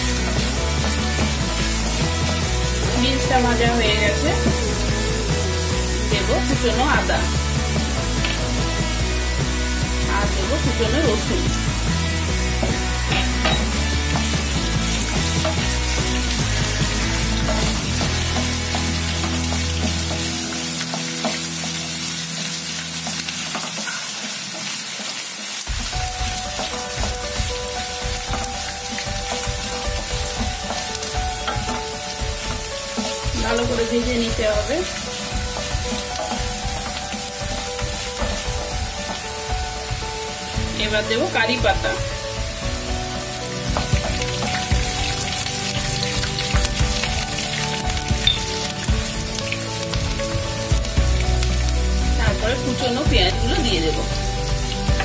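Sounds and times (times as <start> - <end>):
food sizzling in hot oil: 0.0 - 55.0
soft background music: 0.0 - 55.0.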